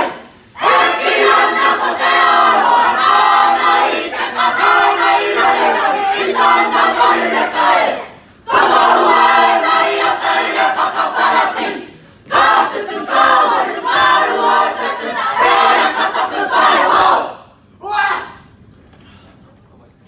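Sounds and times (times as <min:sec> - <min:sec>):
students singing in unison: 0:00.0 - 0:17.4.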